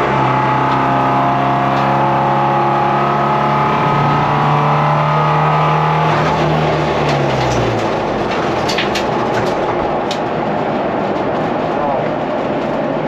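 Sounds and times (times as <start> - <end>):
car engine: 0.0 - 13.0
road and wind noise: 0.0 - 13.0.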